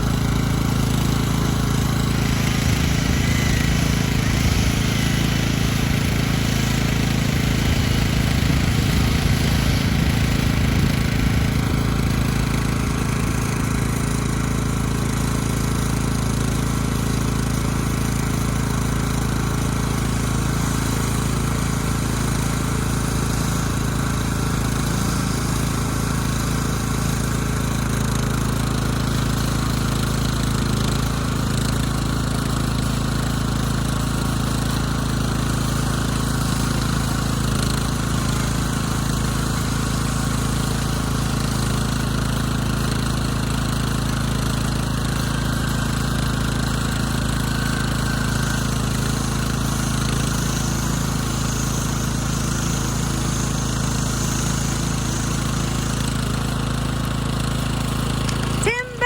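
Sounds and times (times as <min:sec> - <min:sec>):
chainsaw engine running: 0:00.0 - 0:59.0.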